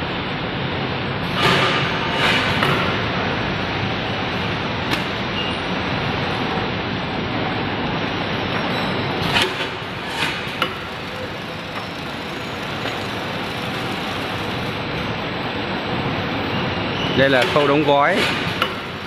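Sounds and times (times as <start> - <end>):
factory machines running: 0.0 - 19.0.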